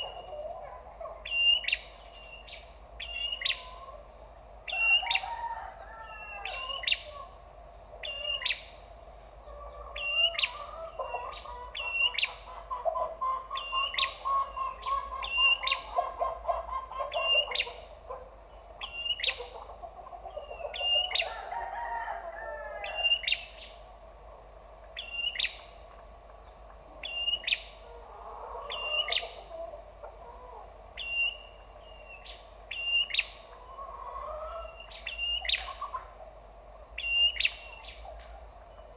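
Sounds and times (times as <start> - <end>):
birds warbling and trilling: 0.0 - 38.9.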